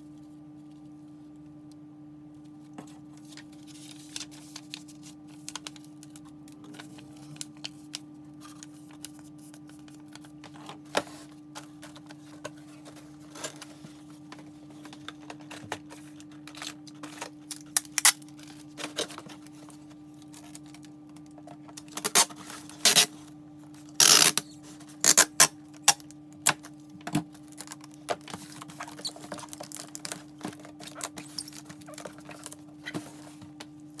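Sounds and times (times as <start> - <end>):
packaging rustling and clicking: 3.2 - 20.9, 23.8 - 33.7.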